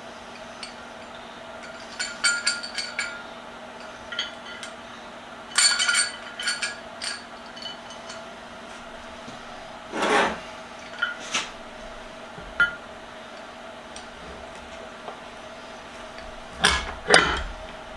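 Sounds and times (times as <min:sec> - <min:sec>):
light metal clinks and knocks: 0:00.3 - 0:09.9, 0:10.7 - 0:17.9.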